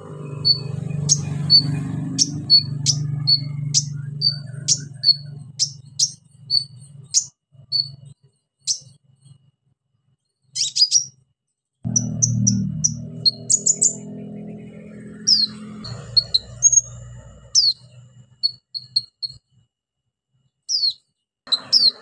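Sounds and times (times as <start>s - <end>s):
bird chirping: 0.0s - 9.5s, 10.2s - 11.2s, 11.9s - 19.5s, 20.7s - 22.0s.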